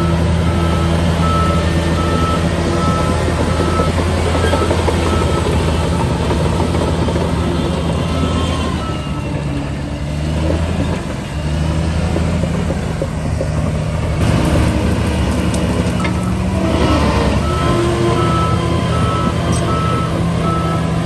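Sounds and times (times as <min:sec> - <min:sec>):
bulldozer diesel engine under load: 0:00.0 - 0:21.0.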